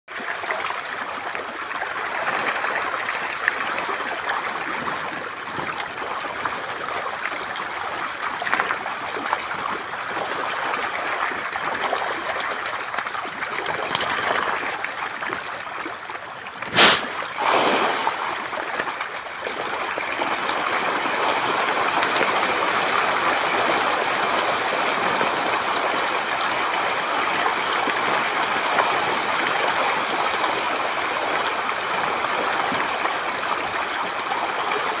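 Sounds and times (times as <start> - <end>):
fish splashing in water: 0.2 - 35.0.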